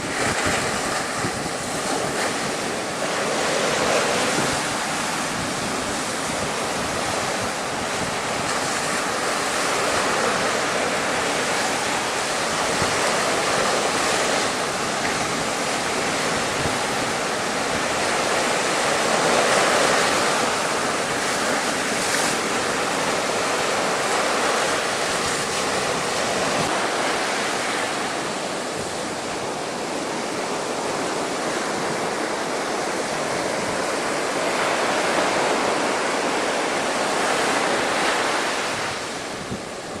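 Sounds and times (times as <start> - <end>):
waves breaking against a sea wall: 0.0 - 40.0
wind buffeting microphone: 0.0 - 40.0.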